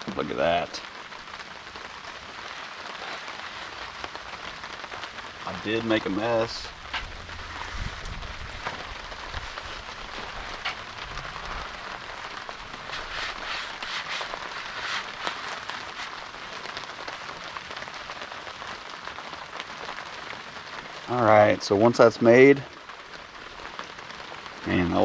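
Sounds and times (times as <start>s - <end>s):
small clicks and crackles: 0.0s - 21.1s
steady rain falling: 0.0s - 25.0s.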